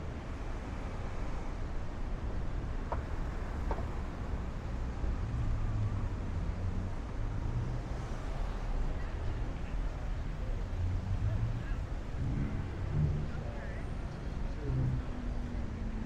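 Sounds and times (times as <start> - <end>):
cars passing: 0.0 - 16.0.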